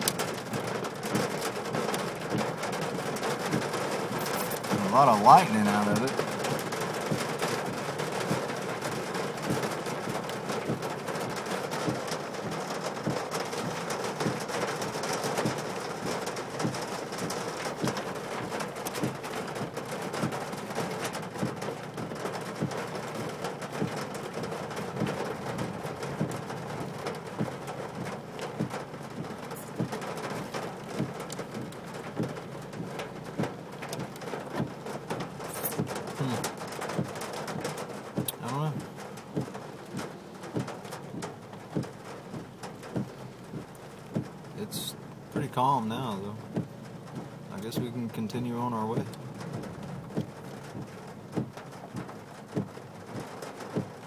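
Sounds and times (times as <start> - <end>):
rain pattering on a car: 0.0 - 54.0.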